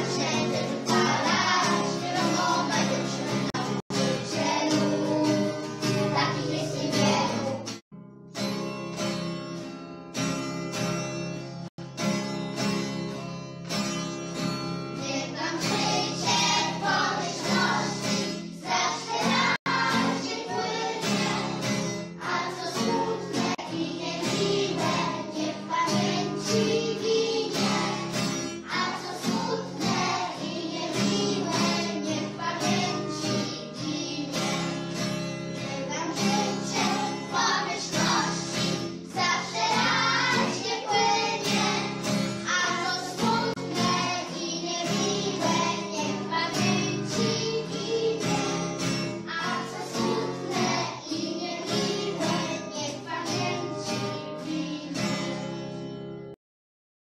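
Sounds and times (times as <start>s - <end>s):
voices singing: 0.0s - 7.7s, 15.0s - 34.8s, 35.6s - 55.2s
plucked guitar: 0.0s - 56.4s.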